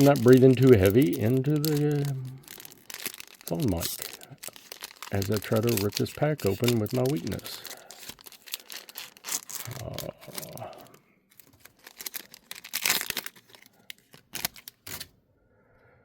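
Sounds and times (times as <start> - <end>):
wrapper crinkling and tearing: 0.0 - 15.1.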